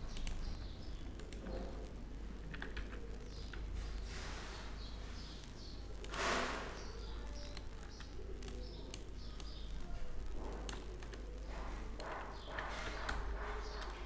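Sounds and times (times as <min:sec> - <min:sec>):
birds chirping: 0:00.0 - 0:14.0
soft noisy bursts: 0:00.0 - 0:14.0
faint clicks: 0:00.1 - 0:04.0, 0:05.2 - 0:14.0.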